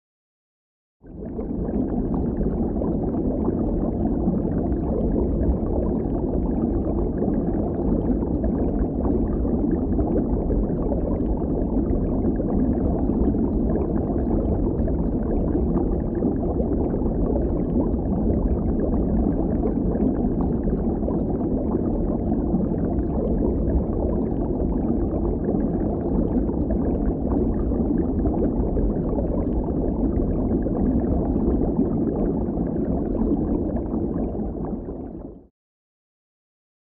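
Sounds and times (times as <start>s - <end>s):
muffled underwater rush: 1.0s - 35.5s.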